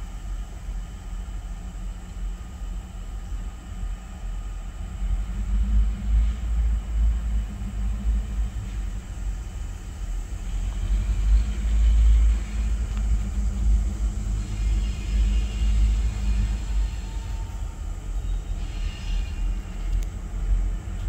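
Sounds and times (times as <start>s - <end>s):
distant diesel locomotive rumble: 0.0s - 21.0s.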